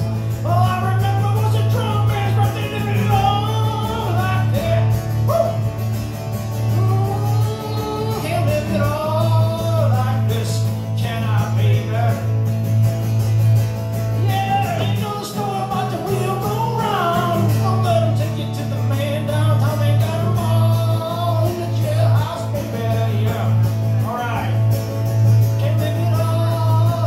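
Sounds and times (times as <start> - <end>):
man singing: 0.0 - 5.7, 6.5 - 12.4, 14.1 - 24.6, 25.5 - 27.0
strummed acoustic guitar: 0.0 - 27.0.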